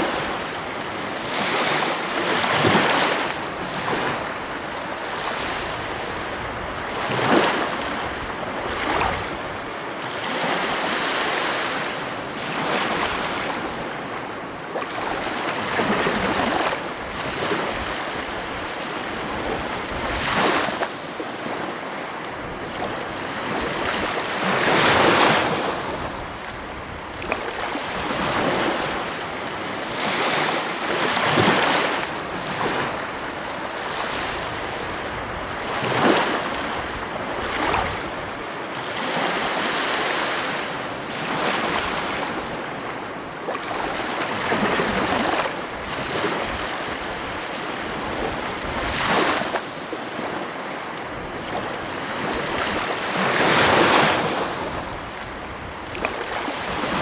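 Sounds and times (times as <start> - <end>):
ocean waves crashing: 0.0 - 57.0.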